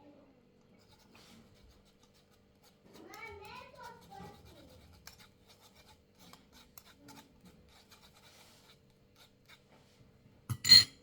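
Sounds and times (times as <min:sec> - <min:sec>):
faint light scratching: 0:00.8 - 0:10.1.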